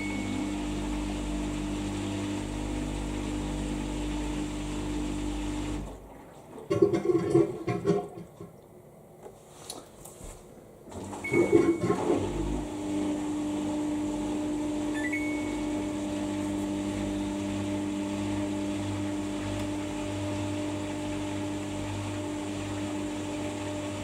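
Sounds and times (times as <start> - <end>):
washing machine motor humming: 0.0 - 9.2, 10.6 - 24.0.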